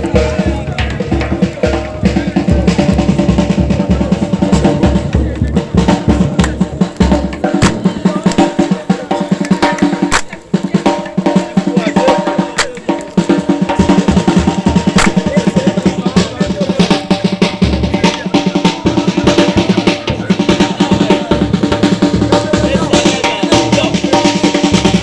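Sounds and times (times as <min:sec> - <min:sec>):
fast drumming: 0:00.0 - 0:25.0.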